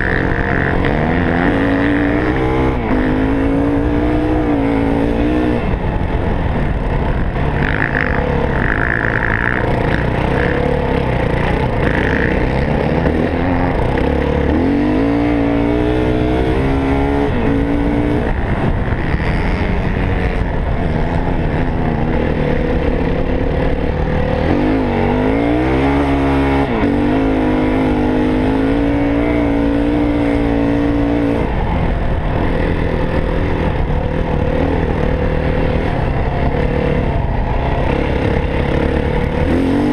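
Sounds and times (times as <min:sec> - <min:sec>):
dirt bike engine revving: 0:00.0 - 0:39.9
wind and riding noise: 0:00.0 - 0:39.9.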